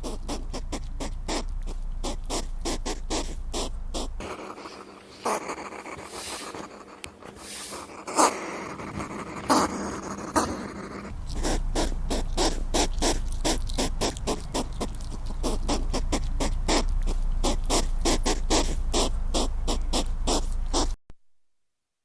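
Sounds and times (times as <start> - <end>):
hedgehog snuffling: 0.0 - 21.0
low hum: 0.0 - 21.0.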